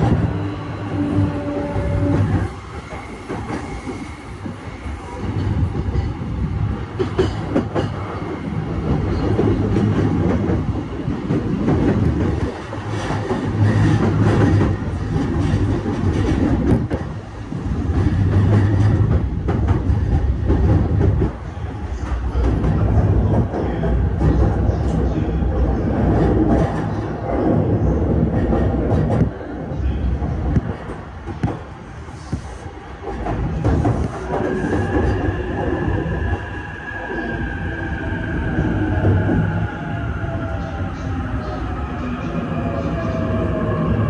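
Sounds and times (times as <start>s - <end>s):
train low rumble: 0.0s - 44.0s.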